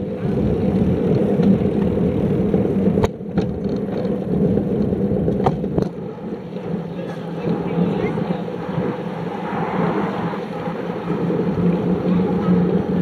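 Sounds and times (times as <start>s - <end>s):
road rumble: 0.0s - 13.0s.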